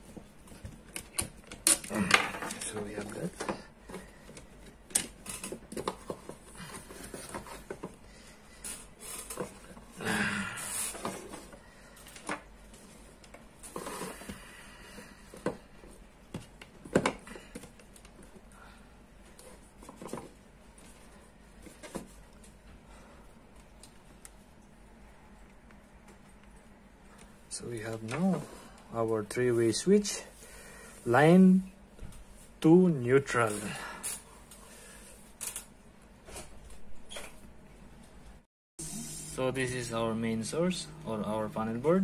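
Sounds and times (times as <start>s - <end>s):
rustles and clicks of handled wires: 0.0s - 10.0s, 10.7s - 24.8s, 25.4s - 30.4s, 31.0s - 38.4s.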